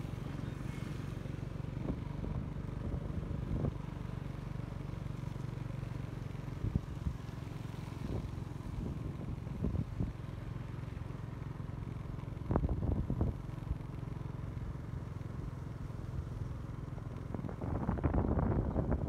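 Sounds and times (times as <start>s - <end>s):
small motorbike engine running: 0.0s - 19.0s.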